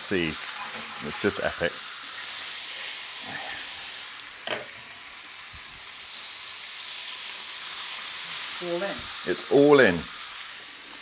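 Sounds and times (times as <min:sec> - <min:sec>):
squid sizzling in a frying pan: 0:00.0 - 0:11.0.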